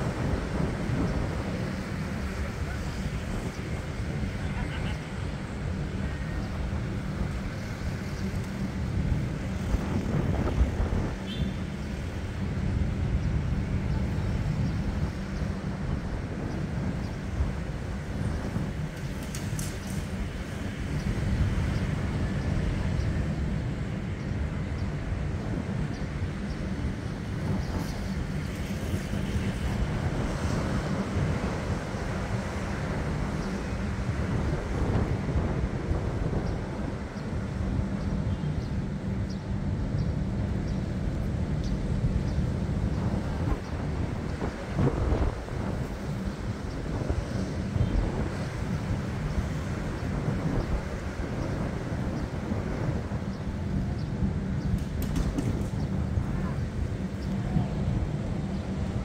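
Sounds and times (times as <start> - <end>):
strong wind: 0.0 - 59.0.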